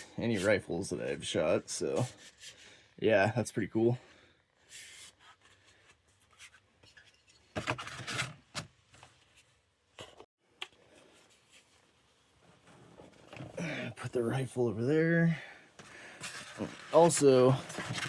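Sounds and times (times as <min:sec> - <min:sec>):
rubbing and scraping handling noise: 0:00.0 - 0:02.8, 0:04.6 - 0:18.0.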